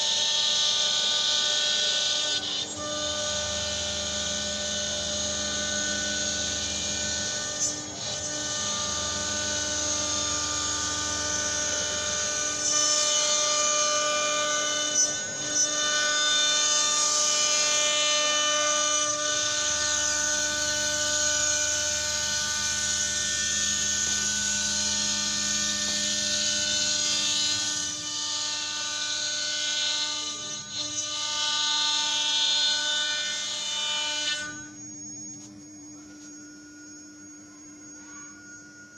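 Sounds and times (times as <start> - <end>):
cnc machine motors whining: 0.0 - 38.9.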